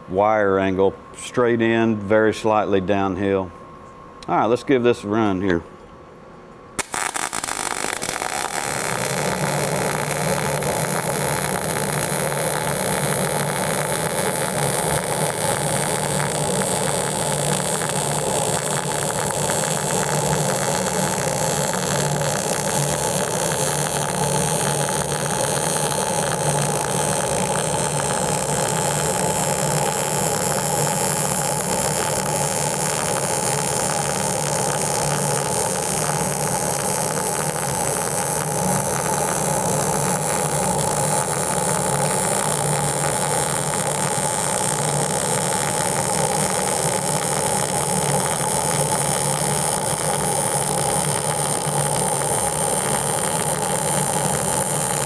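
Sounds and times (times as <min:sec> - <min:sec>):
welding arc crackling buzz: 0:06.8 - 0:55.0.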